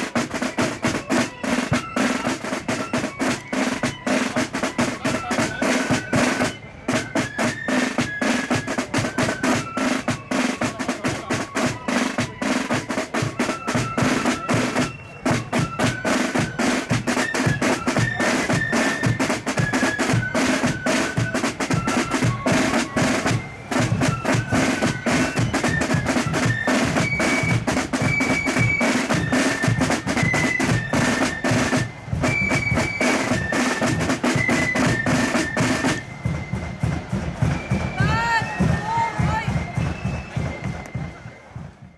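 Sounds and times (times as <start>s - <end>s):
snare drums rattling: 0.0s - 41.8s
flute melody: 0.0s - 41.9s.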